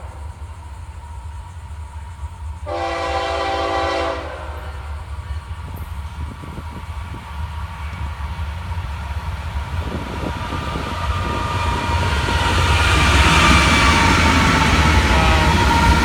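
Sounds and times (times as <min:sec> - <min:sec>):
freight train locomotives rumbling: 0:00.0 - 0:16.0.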